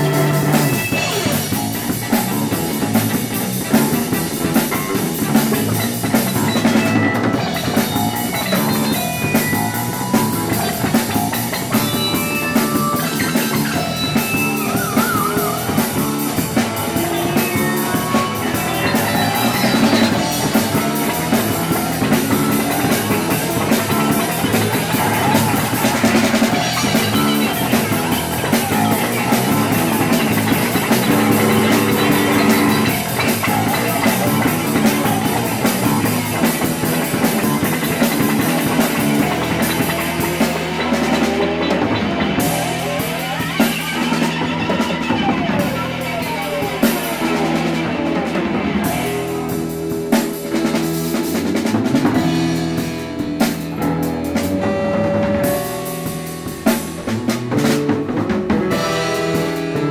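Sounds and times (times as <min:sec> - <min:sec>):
drum kit: 0:00.0 - 0:59.9
electric guitar long held notes: 0:00.0 - 0:59.9.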